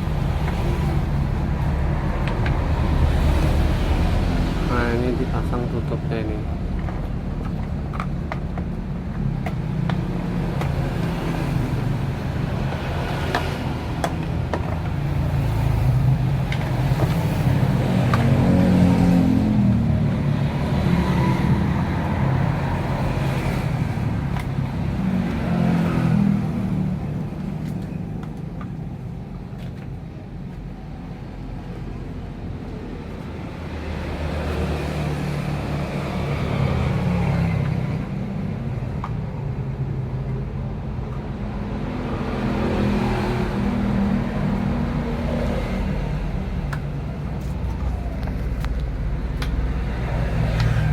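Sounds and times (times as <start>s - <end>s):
traffic passing by: 0.0s - 50.9s.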